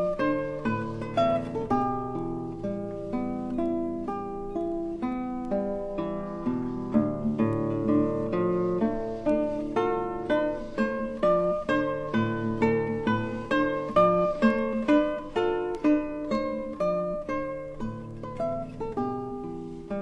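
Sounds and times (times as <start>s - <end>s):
plucked string melody: 0.0s - 20.0s.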